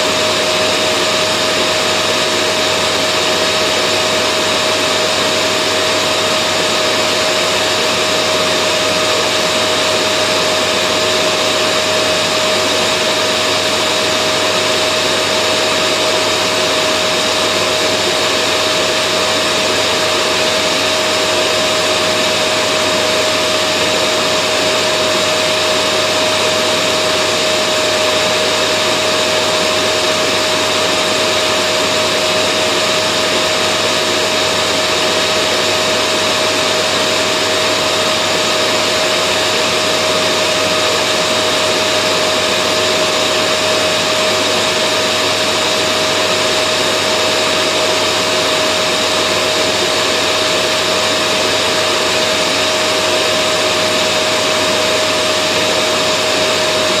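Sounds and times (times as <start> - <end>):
vacuum cleaner motor running: 0.0 - 57.0.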